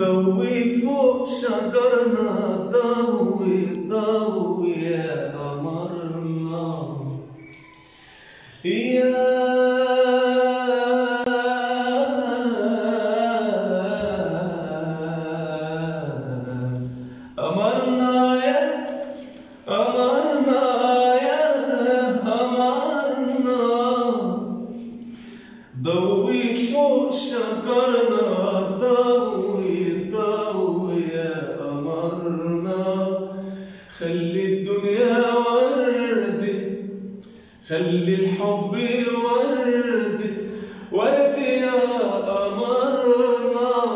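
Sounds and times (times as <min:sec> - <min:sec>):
man singing unaccompanied: 0:00.0 - 0:07.7, 0:08.5 - 0:25.0, 0:25.6 - 0:43.9.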